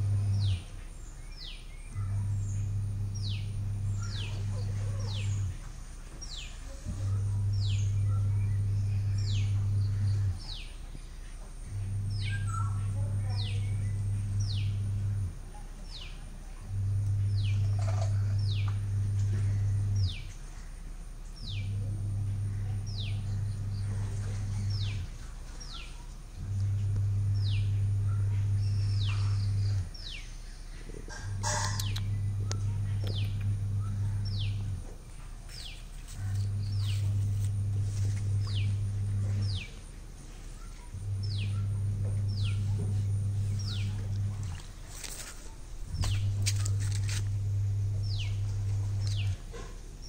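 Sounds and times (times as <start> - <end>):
loud low hum: 0.0 - 50.0.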